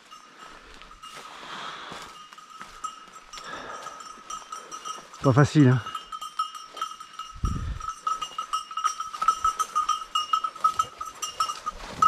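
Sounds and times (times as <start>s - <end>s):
dog collar bell jingling: 1.9s - 12.0s.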